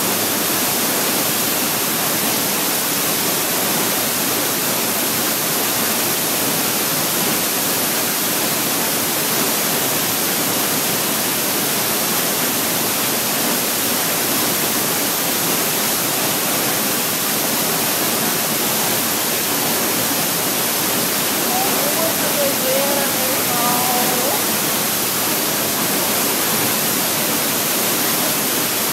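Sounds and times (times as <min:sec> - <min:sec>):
waterfall rushing: 0:00.1 - 0:28.9.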